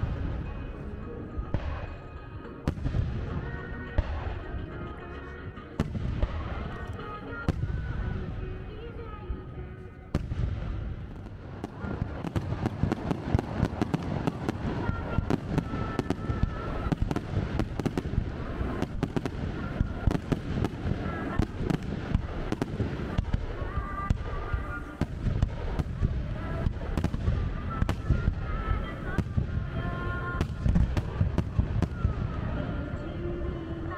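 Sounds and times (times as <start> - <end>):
fireworks crackling pops: 5.8 - 33.9.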